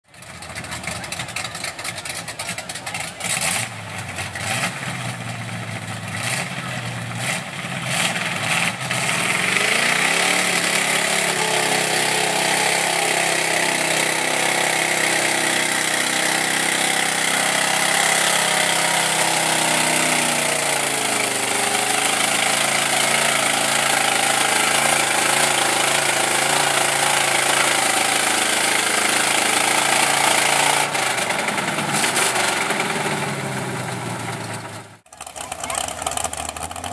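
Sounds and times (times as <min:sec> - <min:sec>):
truck engine revving hard: 0:00.2 - 0:36.9.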